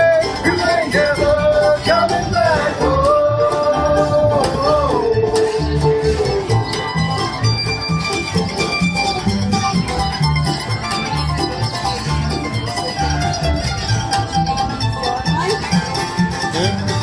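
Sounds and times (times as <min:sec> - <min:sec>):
banjo picking: 0:00.0 - 0:17.0
mandolin picking: 0:00.0 - 0:17.0
strummed acoustic guitar: 0:00.0 - 0:17.0
upright bass walking: 0:00.0 - 0:17.0.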